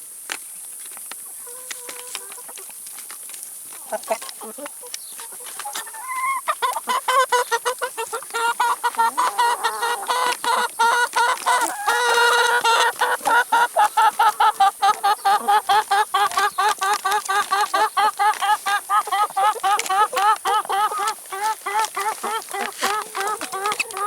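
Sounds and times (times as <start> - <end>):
chickens clucking: 1.2 - 24.0.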